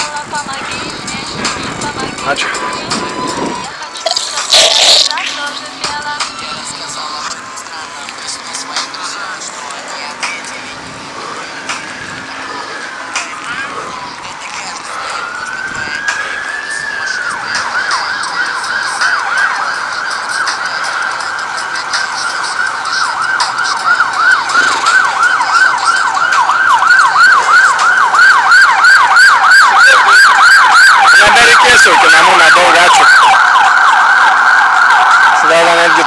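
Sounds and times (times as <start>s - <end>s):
emergency vehicle siren: 0.0s - 36.0s.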